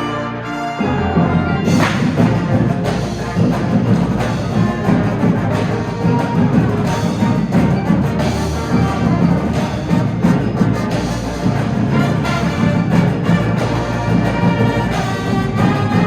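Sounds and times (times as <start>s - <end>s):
brass and wind chords: 0.0s - 16.0s
percussion hits: 0.8s - 16.0s.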